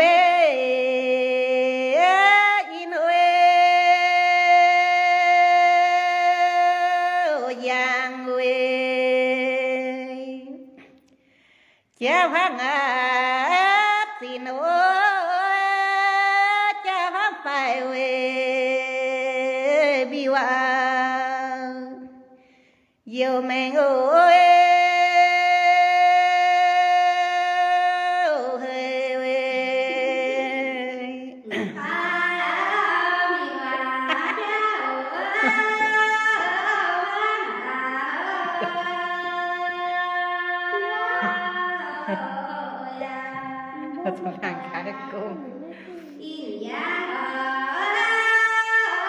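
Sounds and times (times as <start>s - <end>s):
woman singing unaccompanied: 0.0s - 10.7s, 12.0s - 22.2s, 23.1s - 45.9s, 46.6s - 49.0s.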